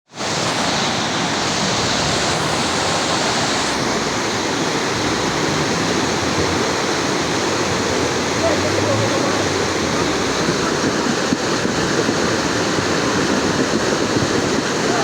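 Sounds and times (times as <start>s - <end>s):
fast-flowing water rushing: 0.1s - 15.0s.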